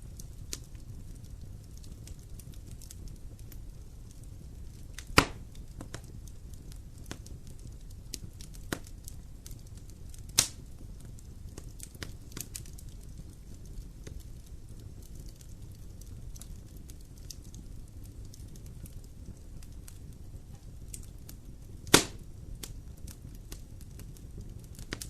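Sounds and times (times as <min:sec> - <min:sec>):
fire popping: 0:00.0 - 0:25.0
wood fire crackling: 0:00.0 - 0:25.0.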